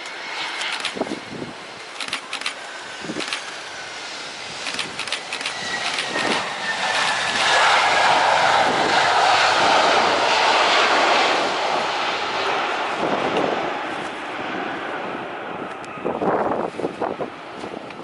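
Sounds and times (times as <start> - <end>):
jet engines whine and roar: 0.0 - 18.0
wind buffeting microphone: 0.8 - 2.2, 2.8 - 18.0.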